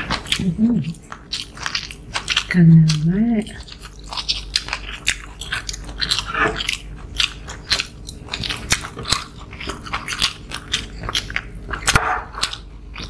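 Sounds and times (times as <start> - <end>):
people chewing and crunching food: 0.0 - 13.0.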